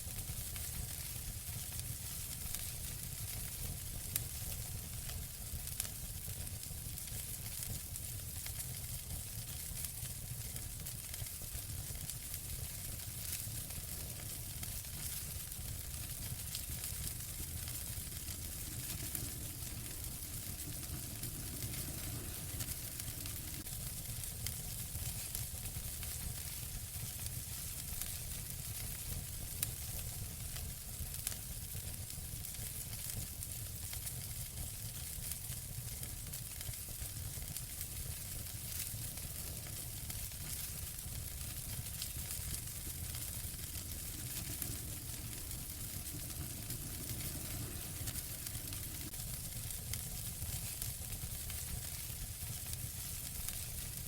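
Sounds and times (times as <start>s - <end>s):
fire crackling: 0.0s - 54.0s
wood fire rumble and hiss: 0.0s - 54.0s
loud fire pops: 2.0s - 30.4s, 32.4s - 54.0s.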